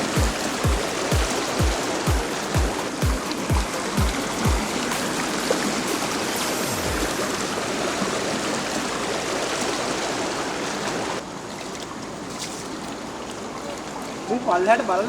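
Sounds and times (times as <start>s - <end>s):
rushing stream water: 0.0s - 15.0s.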